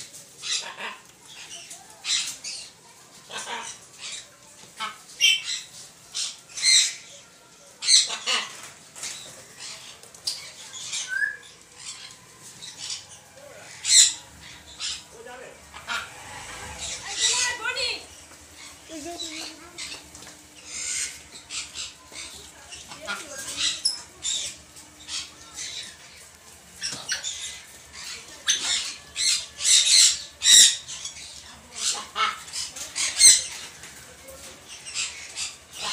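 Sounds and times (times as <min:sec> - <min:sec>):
macaws squawking: 0:00.4 - 0:07.0, 0:07.8 - 0:35.9.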